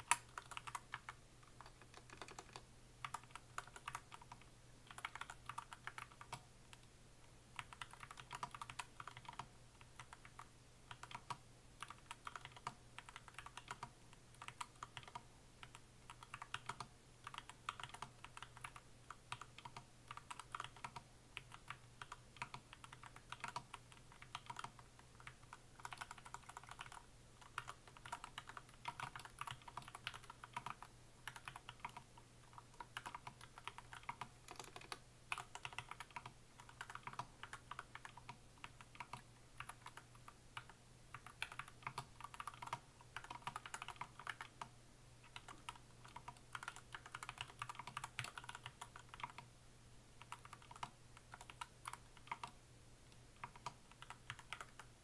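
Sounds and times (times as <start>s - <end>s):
fast typing on keyboard: 0.0s - 6.9s, 7.5s - 44.7s, 45.3s - 49.5s, 50.2s - 52.6s, 53.4s - 55.0s
faint low hum: 0.0s - 55.0s.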